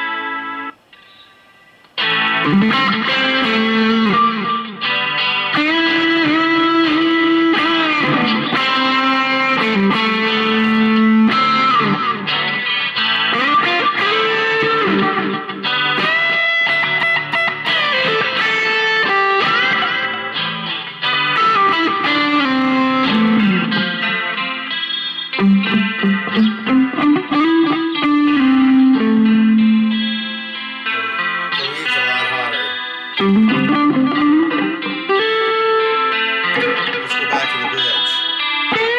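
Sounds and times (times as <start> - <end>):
clean guitar rhythm loop: 0.0 - 38.9
overdriven electric guitar lead: 1.9 - 38.9.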